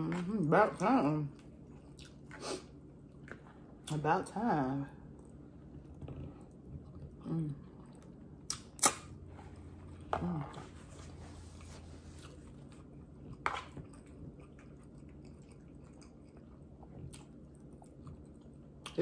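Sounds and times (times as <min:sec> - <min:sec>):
person chewing noodles: 0:01.4 - 0:03.9, 0:05.0 - 0:10.1, 0:10.9 - 0:19.0.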